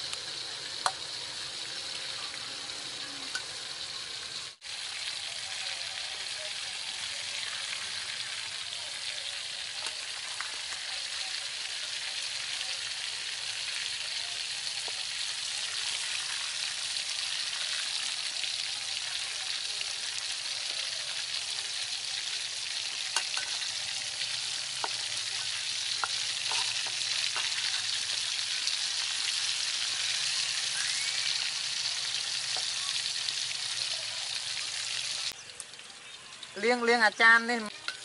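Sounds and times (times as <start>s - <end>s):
frying in hot oil: 0.0s - 38.0s.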